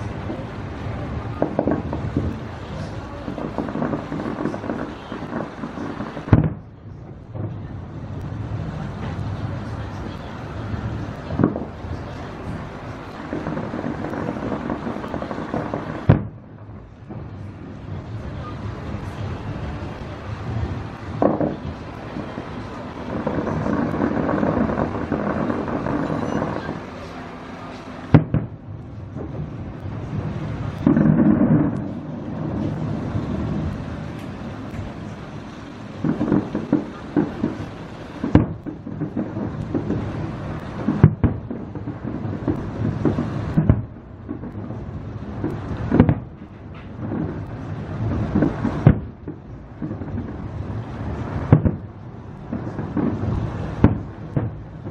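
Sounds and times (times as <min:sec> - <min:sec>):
fireworks bangs: 0:00.0 - 0:54.9
fireworks rumble and crackling: 0:00.0 - 0:54.9.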